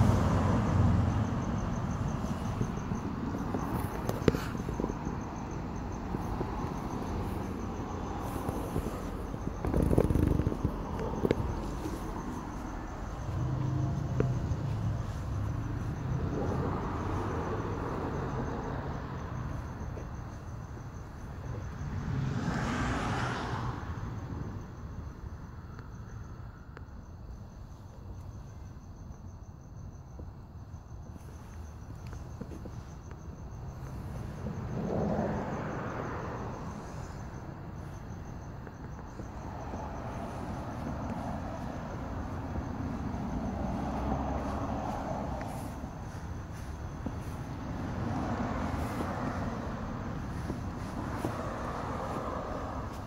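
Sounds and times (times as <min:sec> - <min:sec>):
crickets chirping: 0:00.0 - 0:53.0
low traffic rumble: 0:00.0 - 0:53.0.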